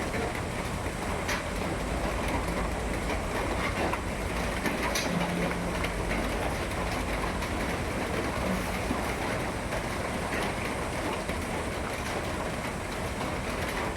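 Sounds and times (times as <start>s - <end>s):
steady rain: 0.0s - 13.9s.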